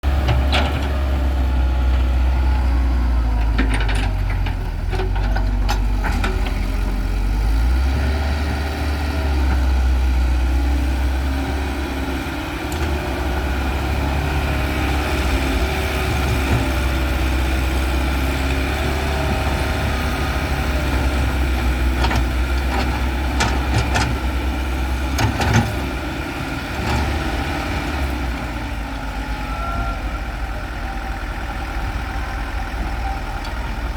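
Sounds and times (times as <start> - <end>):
heavy diesel engines rumbling: 0.0 - 33.9.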